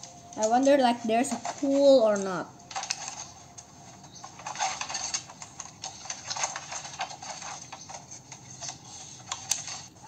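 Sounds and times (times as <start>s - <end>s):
bamboo pieces clacking: 0.0s - 10.0s.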